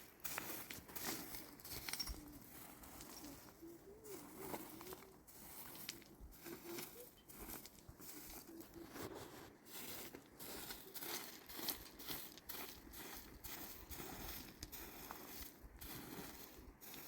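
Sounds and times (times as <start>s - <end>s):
dry material rustling and crinkling: 0.0s - 15.6s.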